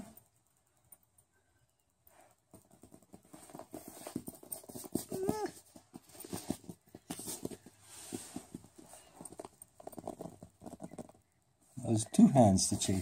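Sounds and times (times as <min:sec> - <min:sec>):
budgie scurrying and pecking: 0:01.9 - 0:13.0.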